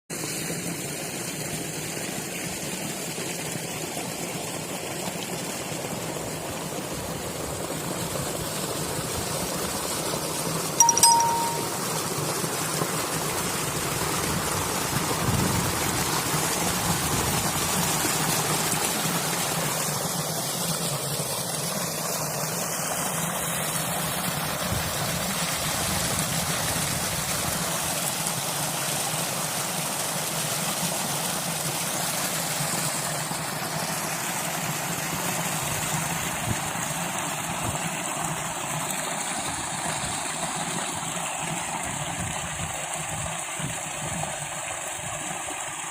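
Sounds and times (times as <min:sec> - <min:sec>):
water rushing and splashing: 0:00.1 - 0:45.9.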